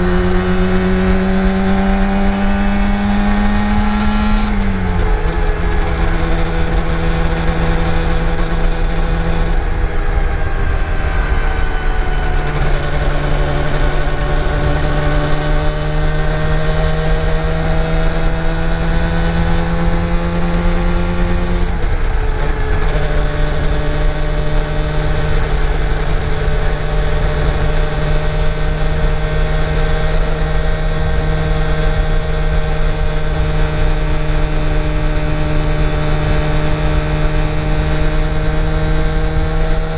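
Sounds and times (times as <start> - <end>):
road and wind noise: 0.0 - 39.9
two-stroke motorcycle engine: 0.0 - 39.9.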